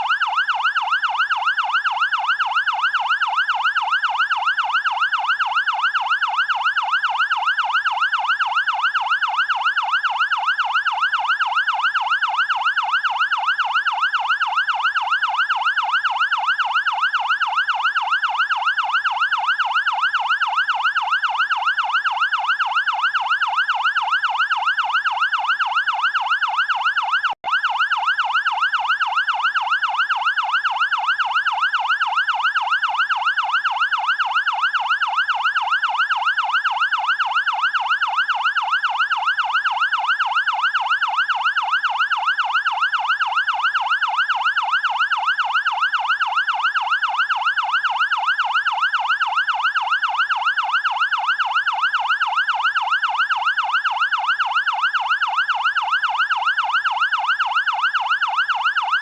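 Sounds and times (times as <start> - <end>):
fast yelp siren: 0.0 - 59.0.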